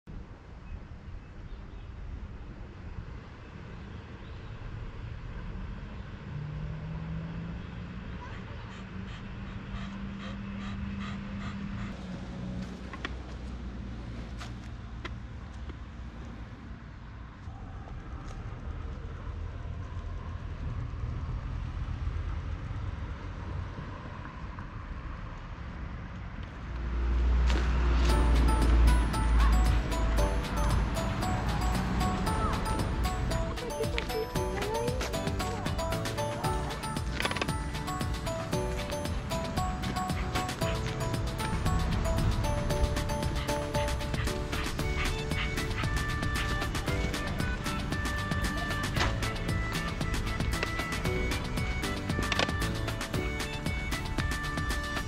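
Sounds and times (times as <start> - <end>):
road traffic rumble: 0.1 - 55.0
passing vehicle engine hum: 4.8 - 55.0.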